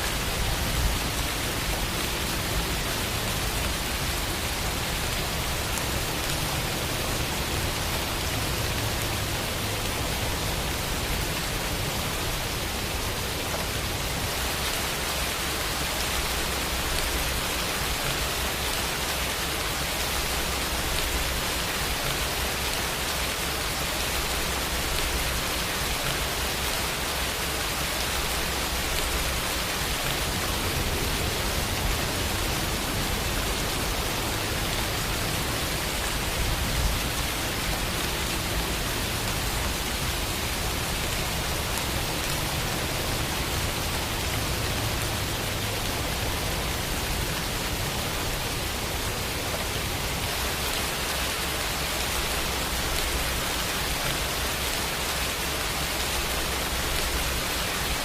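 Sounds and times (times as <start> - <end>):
raindrops pattering on surfaces: 0.0 - 58.0
steady rain hiss: 0.0 - 58.0.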